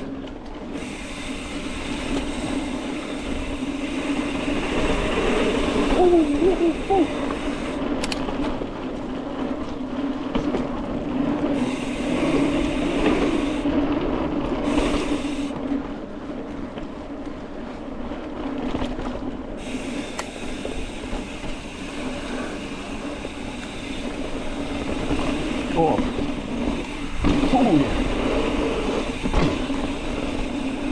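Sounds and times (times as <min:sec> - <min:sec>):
bike clicks and rattles: 0:00.0 - 0:30.9
bike rolling on dirt trail: 0:00.0 - 0:30.9.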